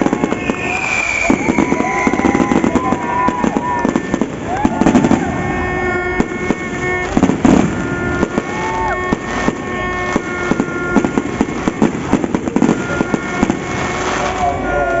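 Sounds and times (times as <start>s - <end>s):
fireworks and firecrackers popping: 0.0s - 15.0s.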